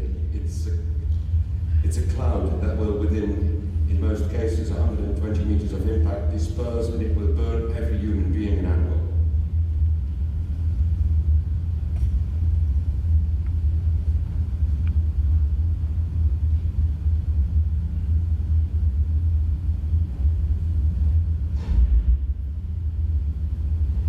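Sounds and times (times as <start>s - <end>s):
deep low rumble: 0.0s - 24.0s.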